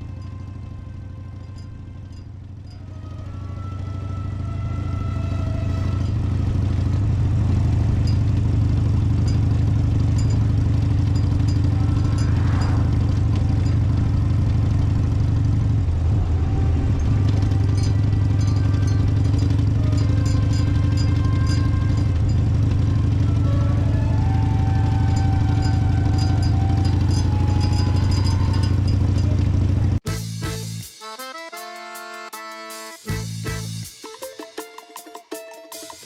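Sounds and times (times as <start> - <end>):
motorcycle engine running: 0.0 - 30.9, 33.1 - 33.9.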